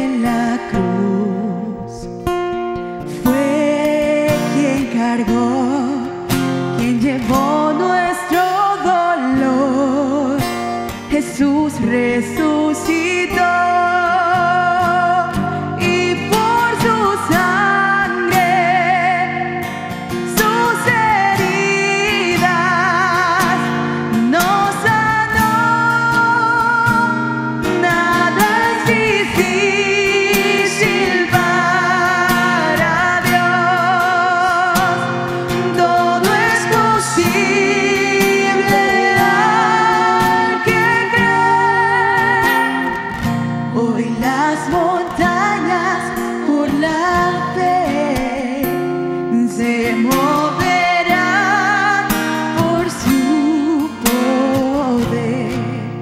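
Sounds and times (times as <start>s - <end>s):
strummed acoustic guitar: 0.0s - 56.0s
women singing: 0.0s - 56.0s.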